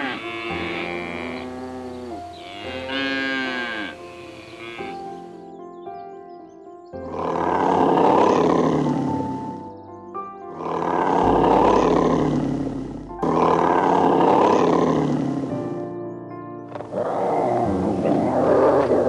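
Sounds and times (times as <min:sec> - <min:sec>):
rough animal calls: 0:00.0 - 0:05.5, 0:07.0 - 0:09.8, 0:10.5 - 0:15.6, 0:16.7 - 0:19.0
soft piano music: 0:00.0 - 0:19.0.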